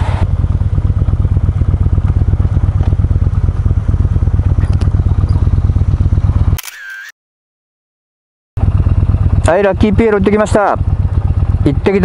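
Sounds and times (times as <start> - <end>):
motorcycle engine running: 0.0 - 6.6, 8.6 - 12.0.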